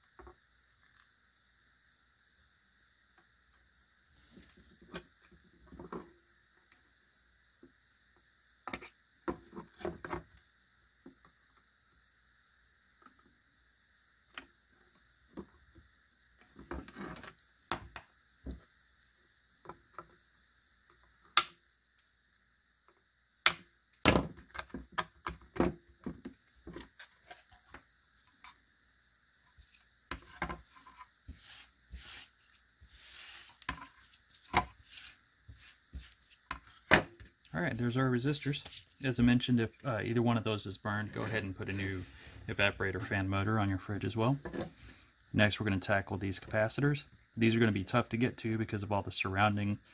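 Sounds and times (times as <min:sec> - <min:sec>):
faint high whine: 0:00.0 - 0:49.9.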